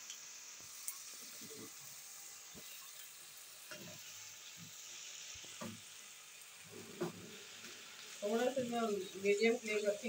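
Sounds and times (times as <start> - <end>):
potatoes sizzling in oil: 0.0 - 10.0.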